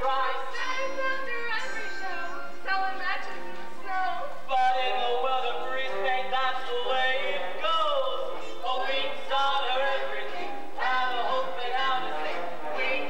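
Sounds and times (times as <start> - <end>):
people singing: 0.0 - 2.2, 3.9 - 13.0.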